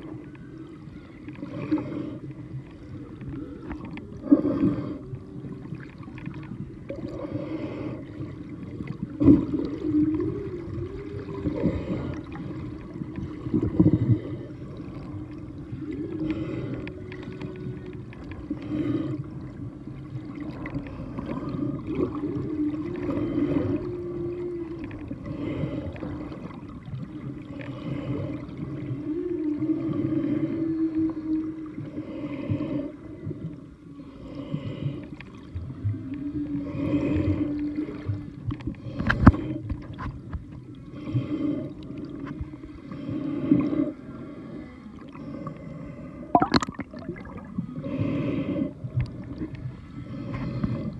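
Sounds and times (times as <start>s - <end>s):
whale song underwater: 0.0s - 50.9s.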